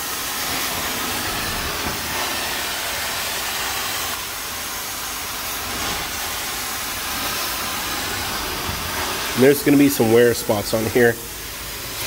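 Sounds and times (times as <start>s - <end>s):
carpet extraction wand hissing: 0.0s - 12.0s.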